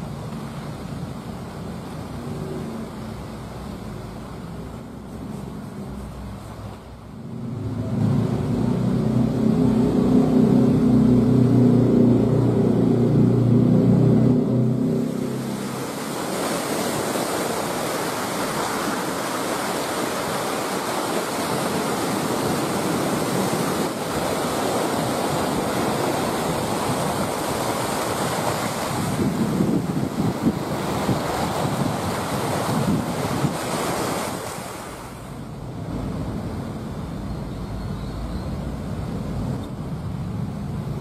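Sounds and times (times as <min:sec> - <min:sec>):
boat engine humming: 0:00.0 - 0:34.0, 0:34.9 - 0:41.0.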